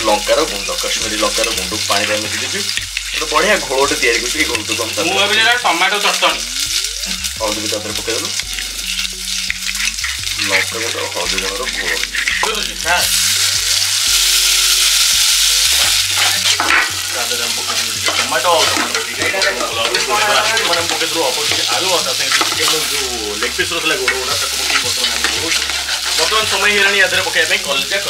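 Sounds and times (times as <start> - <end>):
chicken sizzling in hot oil: 0.0 - 28.0
metal spoon stirring in pot: 0.1 - 28.0.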